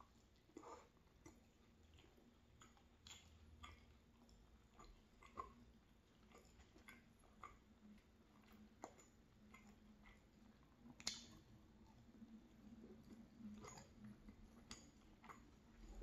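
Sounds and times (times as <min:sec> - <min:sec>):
chewing crisp flatbread: 0:00.0 - 0:16.0.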